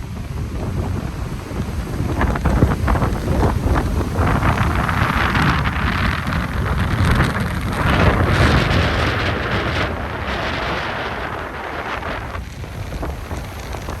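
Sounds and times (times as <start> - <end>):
rough surf: 0.0 - 14.0
wind buffeting microphone: 0.0 - 14.0.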